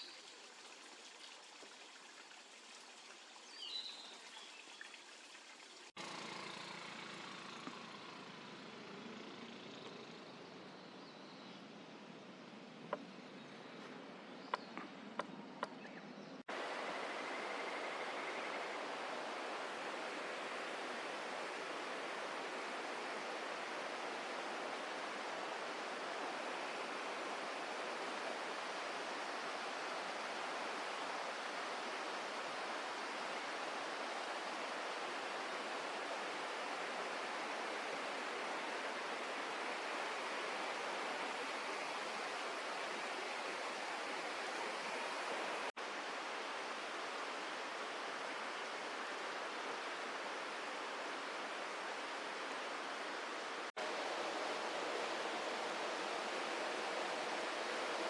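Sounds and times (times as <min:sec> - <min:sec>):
flowing water rushing: 0:00.0 - 0:08.9, 0:16.4 - 0:58.0.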